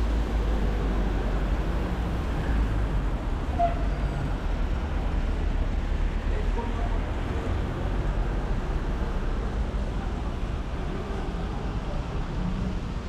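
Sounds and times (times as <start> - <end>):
traffic engines rumbling: 0.0 - 13.0.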